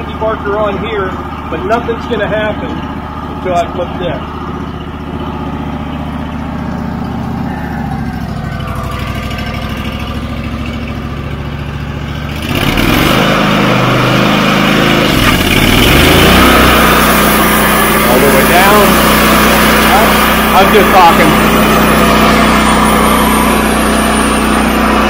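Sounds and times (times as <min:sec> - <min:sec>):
sawmill engine running: 0:00.0 - 0:25.0.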